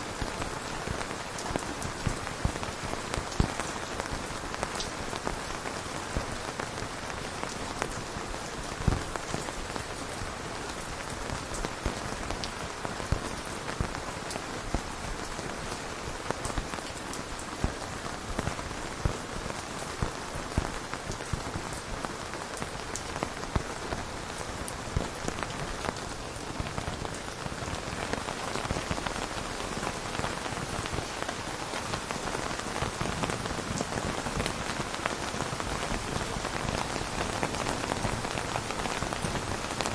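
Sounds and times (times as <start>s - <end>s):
rain hissing on a surface: 0.0s - 39.9s
raindrops ticking: 0.0s - 39.9s.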